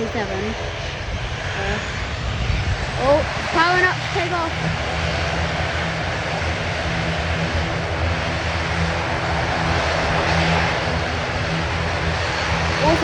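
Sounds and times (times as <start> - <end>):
turboprop engines drone: 0.0 - 13.0.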